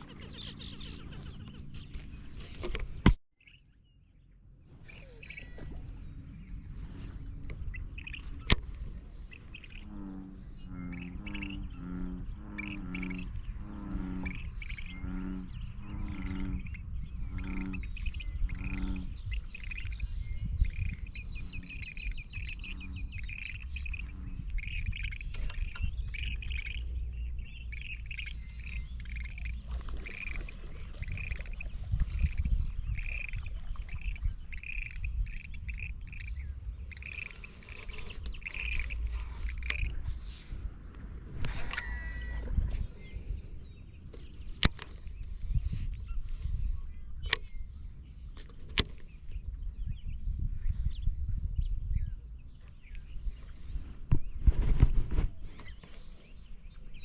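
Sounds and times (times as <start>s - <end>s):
birds chirping and calling: 0.0s - 57.0s
low bird call: 0.0s - 57.0s
low rumble of wind or water: 0.0s - 57.0s.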